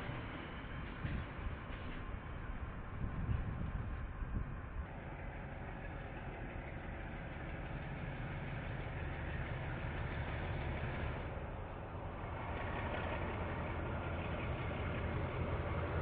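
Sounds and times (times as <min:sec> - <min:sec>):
diesel locomotive engine droning: 0:00.0 - 0:16.0.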